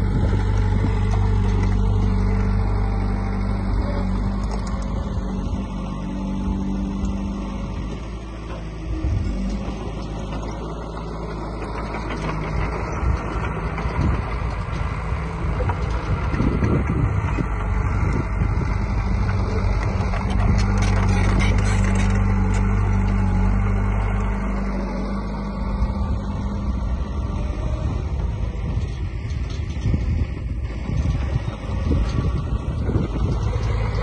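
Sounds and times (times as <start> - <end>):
heavy machinery diesel engine running: 0.0 - 34.0.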